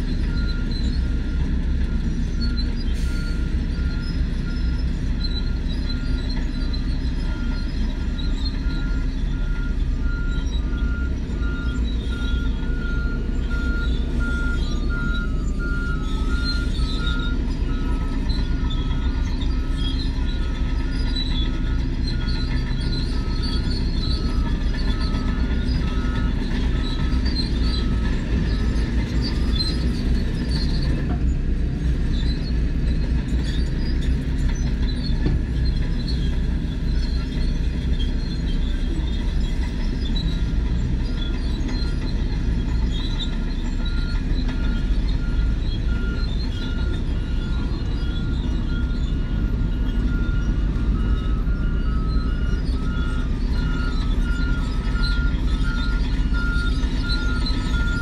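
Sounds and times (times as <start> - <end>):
bulldozer diesel engine: 0.0 - 58.0
steel tracks clattering and squealing: 0.0 - 58.0.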